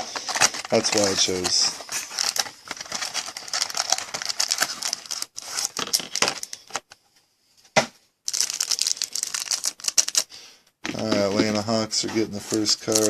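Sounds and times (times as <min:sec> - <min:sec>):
cards and packaging rustling: 0:00.0 - 0:07.0, 0:08.3 - 0:10.3, 0:10.9 - 0:13.0.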